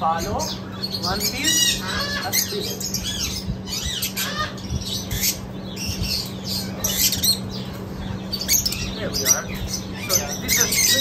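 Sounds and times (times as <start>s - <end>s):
lovebirds chirping and squawking: 0.0s - 11.0s.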